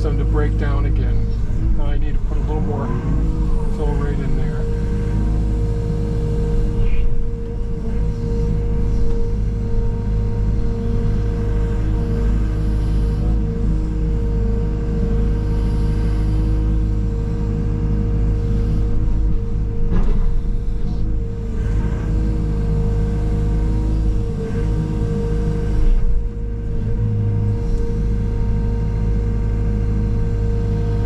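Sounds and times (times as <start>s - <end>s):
machine engine running: 0.0s - 31.0s.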